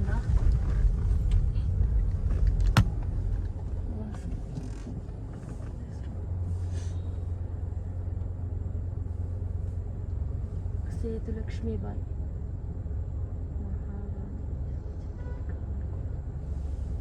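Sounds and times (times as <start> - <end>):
car rumbling on the move: 0.0 - 17.0.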